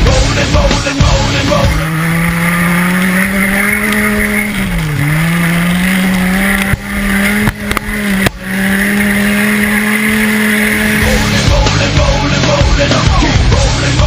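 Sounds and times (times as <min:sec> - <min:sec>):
car engine running hard: 0:00.0 - 0:14.0.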